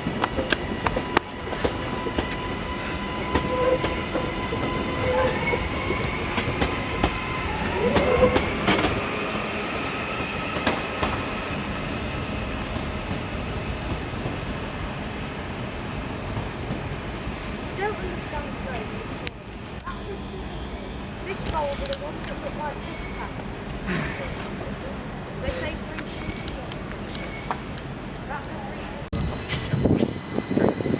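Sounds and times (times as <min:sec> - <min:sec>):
wheels clicking over rail joints: 0:00.0 - 0:20.2, 0:21.1 - 0:29.9
train rumbling on track: 0:00.0 - 0:30.9.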